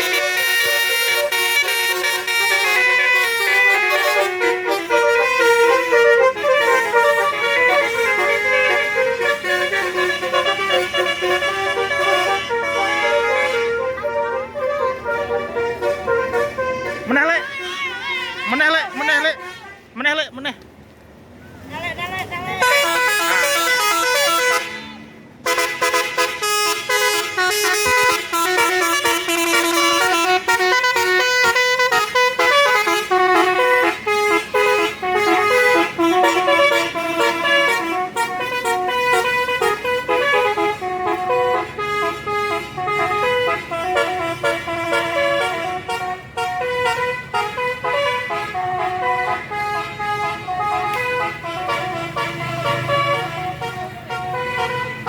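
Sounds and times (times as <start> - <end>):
multi-tone musical bus horn: 0.0 - 20.2, 22.4 - 55.0.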